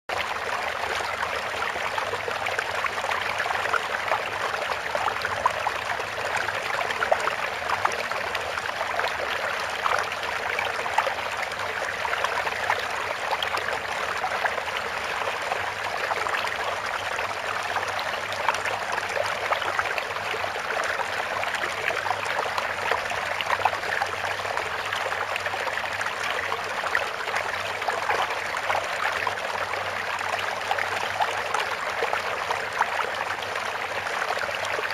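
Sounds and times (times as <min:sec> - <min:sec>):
babbling stream: 0:00.1 - 0:34.9.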